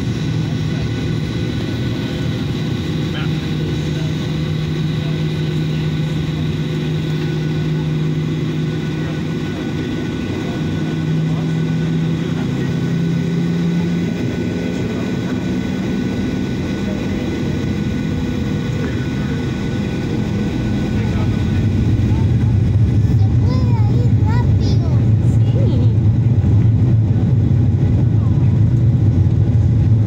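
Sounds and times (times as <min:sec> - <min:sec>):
jet engines humming in cabin: 0:00.0 - 0:30.0.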